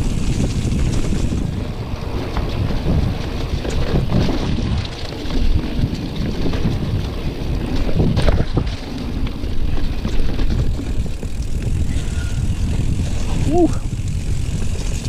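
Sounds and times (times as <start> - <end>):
bike knocks and rattles: 0.0 - 15.0
wind rushing over microphone: 0.0 - 15.0.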